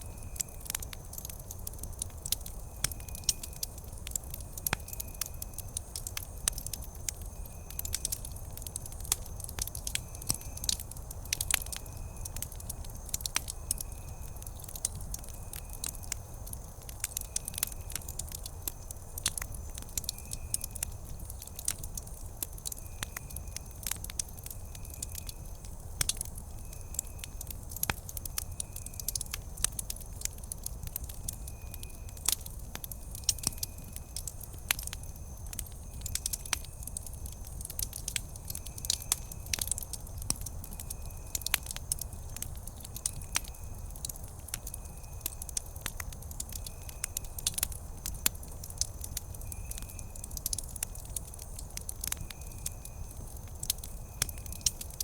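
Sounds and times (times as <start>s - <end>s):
wood campfire crackling: 0.0s - 55.0s.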